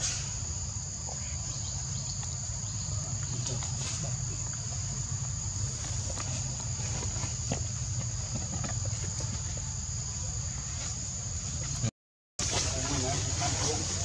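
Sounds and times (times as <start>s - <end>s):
forest insects droning: 0.0s - 14.0s.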